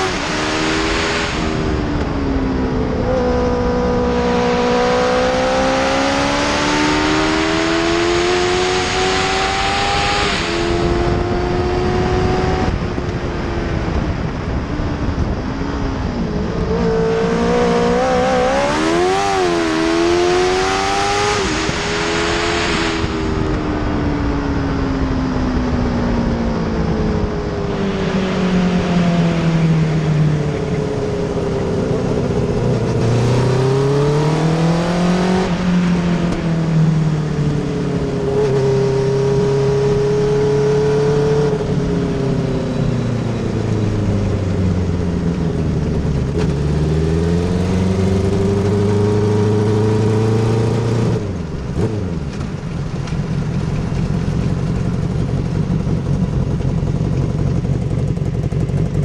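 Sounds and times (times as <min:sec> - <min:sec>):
wind rushing over microphone: 0:00.0 - 0:58.7
motorcycle engine at full throttle: 0:00.0 - 0:59.0.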